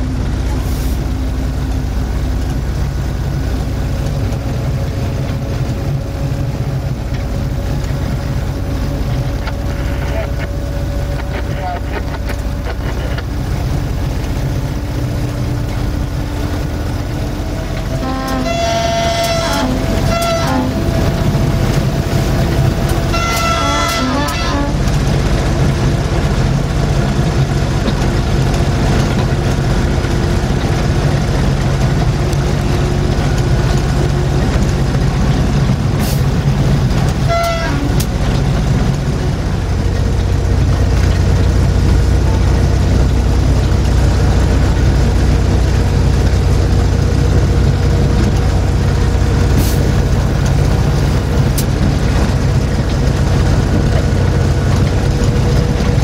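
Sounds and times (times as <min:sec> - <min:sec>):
locomotive engine drone: 0:00.0 - 0:56.0.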